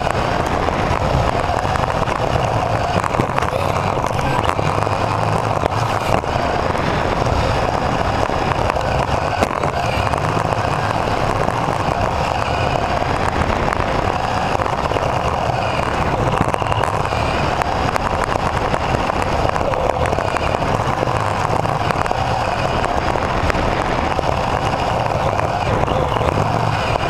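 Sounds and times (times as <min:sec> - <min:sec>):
toy car motor and gears whirring: 0:00.0 - 0:27.0.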